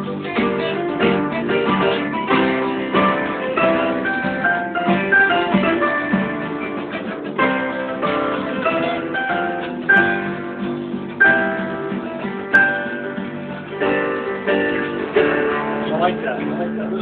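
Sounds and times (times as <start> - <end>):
guitar playing chords: 0.0 - 17.0.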